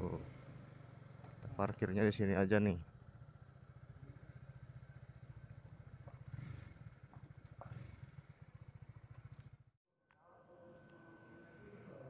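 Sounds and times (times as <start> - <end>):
faint motorcycle engine idling: 0.0 - 9.8.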